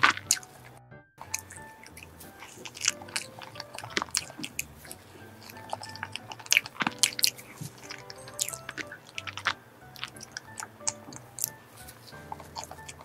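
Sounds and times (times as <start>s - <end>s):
chewing with mouth clicks: 0.0s - 0.6s, 1.2s - 13.0s
quiet background music: 0.0s - 13.0s.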